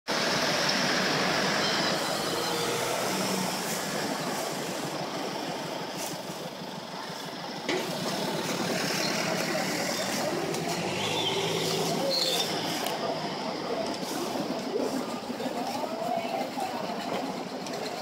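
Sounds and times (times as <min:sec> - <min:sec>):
city street noise: 0:00.0 - 0:18.0.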